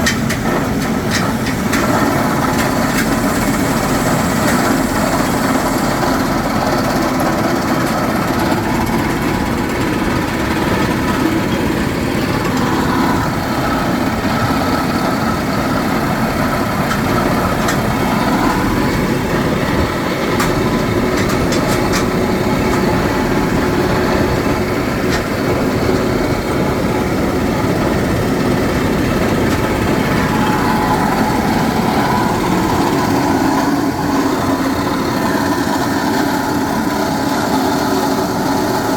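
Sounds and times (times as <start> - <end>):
drilling rig running: 0.0 - 38.9.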